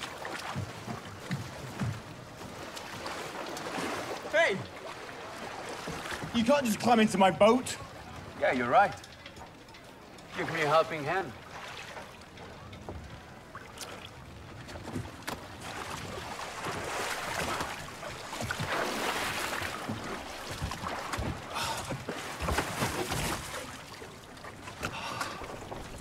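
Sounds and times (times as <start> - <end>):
knocks and creaks on wooden hull: 0.0 - 7.1, 11.2 - 26.0
water lapping: 0.0 - 26.0
wind: 0.0 - 26.0.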